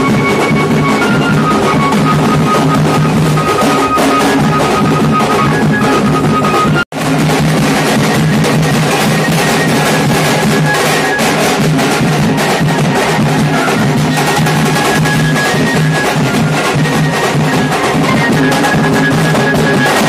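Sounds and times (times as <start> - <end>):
dhol drums drumming: 0.0 - 20.0.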